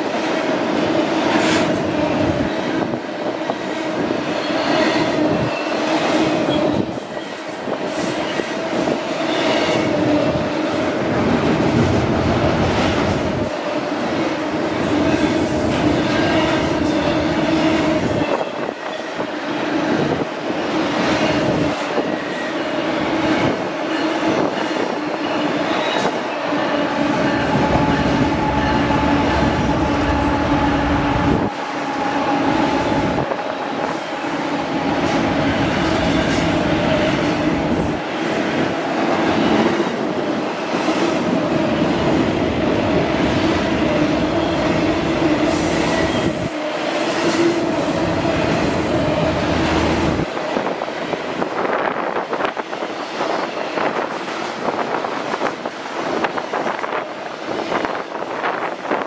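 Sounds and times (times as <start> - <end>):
train wheels clattering on rail: 0.0 - 59.0.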